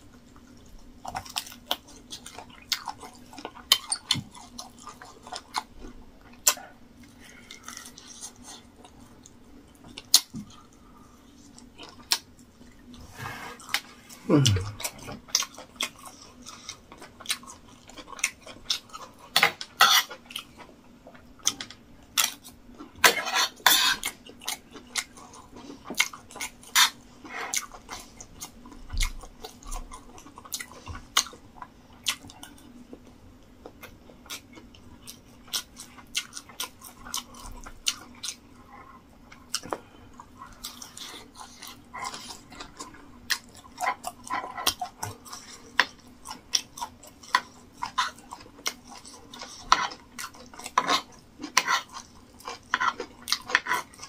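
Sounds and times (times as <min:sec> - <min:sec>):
chewing and lip-smacking: 0:00.0 - 0:13.0, 0:13.6 - 0:54.0
faint steady hum: 0:00.0 - 0:54.0.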